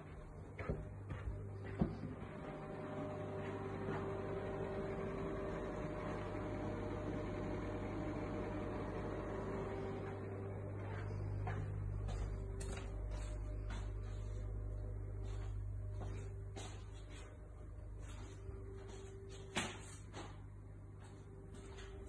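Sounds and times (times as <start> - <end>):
mechanical hum with faint whine: 0.0 - 22.0.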